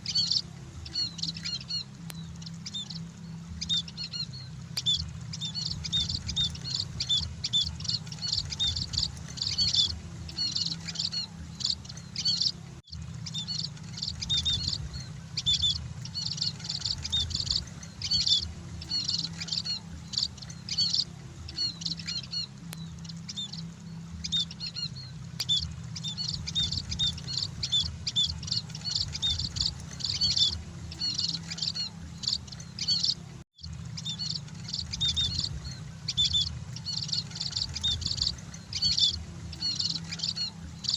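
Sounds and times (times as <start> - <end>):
flock of birds chirping: 0.0 - 40.9
steady low hum: 0.0 - 40.9.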